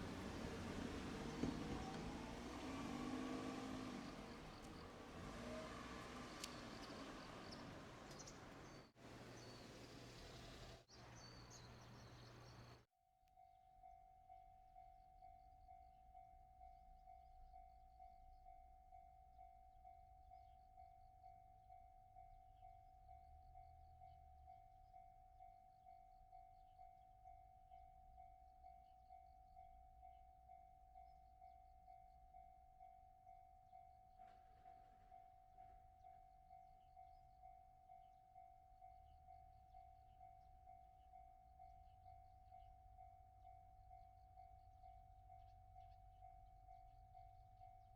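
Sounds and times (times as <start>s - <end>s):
level crossing warning bell: 0.0s - 12.8s, 13.4s - 47.9s.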